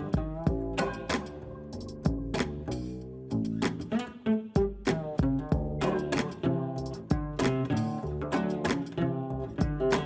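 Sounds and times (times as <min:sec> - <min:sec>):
bass line: 0:00.0 - 0:04.0, 0:04.6 - 0:10.0
plucked guitar-like strings: 0:00.0 - 0:10.0.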